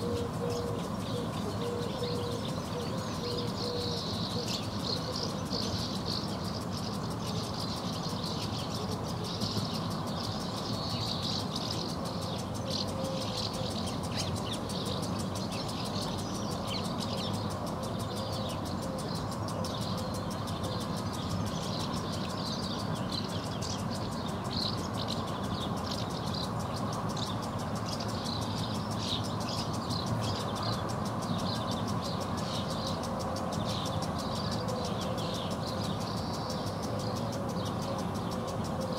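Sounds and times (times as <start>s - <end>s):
birds twittering: 0.0s - 38.9s
distant traffic hum: 0.0s - 38.9s.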